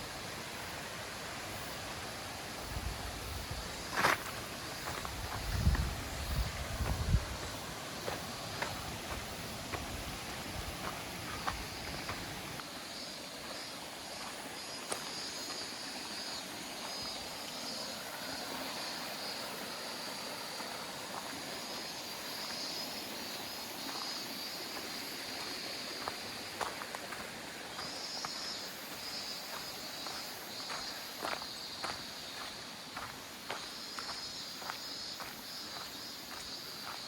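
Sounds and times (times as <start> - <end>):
mountain stream rushing: 0.0 - 34.8.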